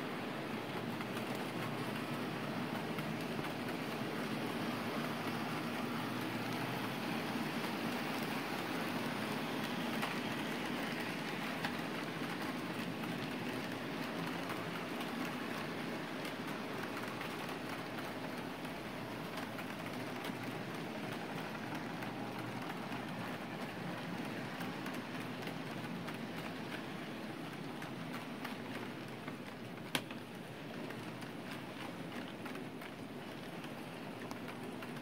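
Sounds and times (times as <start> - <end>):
model train cars rattling on track: 0.0 - 35.0.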